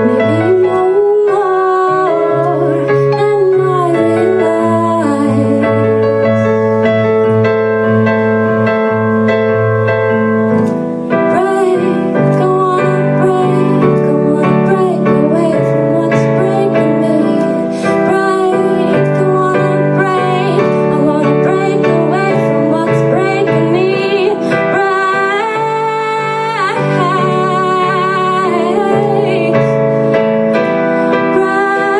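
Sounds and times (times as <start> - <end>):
woman singing: 0.0 - 6.5, 11.0 - 31.9
electronic keyboard chords: 0.0 - 31.9.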